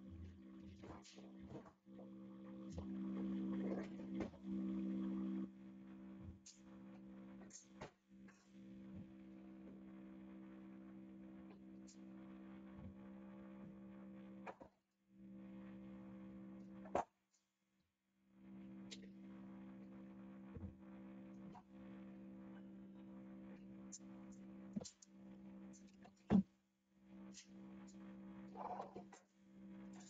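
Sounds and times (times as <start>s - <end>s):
low electrical hum: 0.0s - 14.6s, 18.2s - 30.0s.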